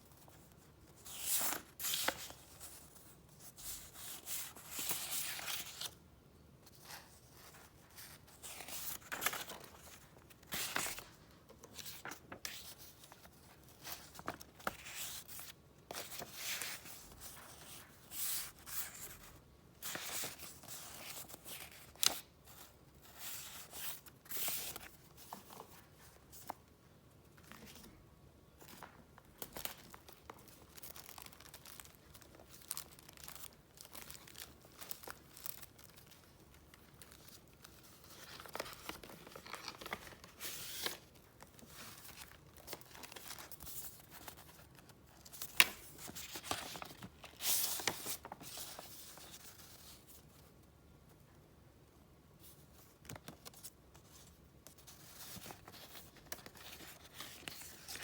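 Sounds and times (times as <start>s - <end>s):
paper rustling and crinkling: 0.2s - 6.0s, 6.6s - 26.6s, 28.6s - 50.4s, 52.4s - 58.0s.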